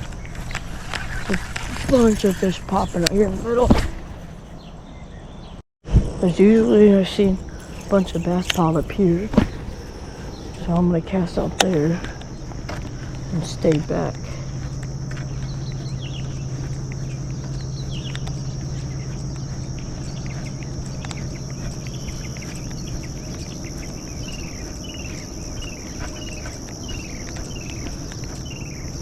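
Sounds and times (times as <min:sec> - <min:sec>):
birds whistling: 0:00.0 - 0:05.6, 0:07.4 - 0:11.5, 0:14.2 - 0:29.0
insects droning: 0:00.0 - 0:29.0
steady low hum: 0:00.0 - 0:29.0.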